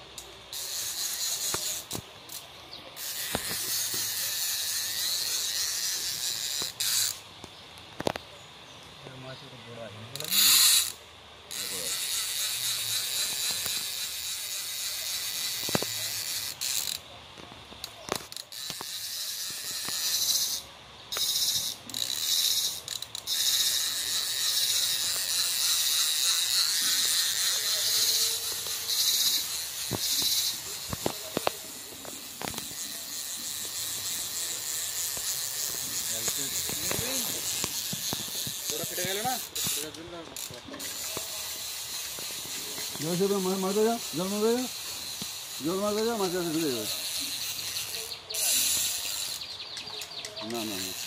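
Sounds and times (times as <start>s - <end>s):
fishing reel clicking: 0.1s - 2.4s, 3.0s - 7.2s, 10.1s - 17.0s, 17.8s - 49.5s, 50.4s - 51.0s.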